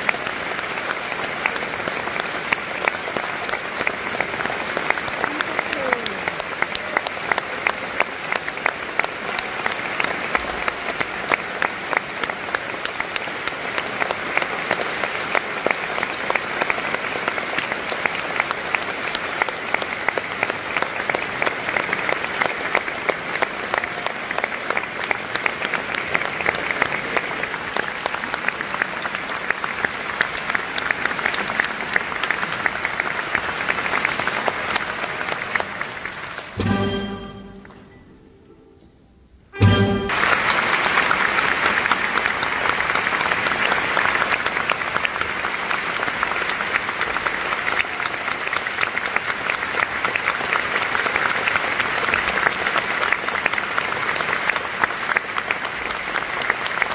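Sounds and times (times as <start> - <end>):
audience applauding: 0.0 - 37.9, 39.8 - 56.9.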